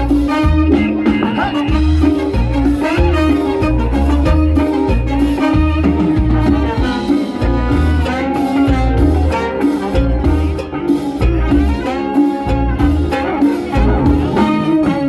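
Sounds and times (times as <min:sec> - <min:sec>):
latin band playing salsa: 0:00.0 - 0:15.0
pulsing bass and drum beat: 0:00.0 - 0:15.0.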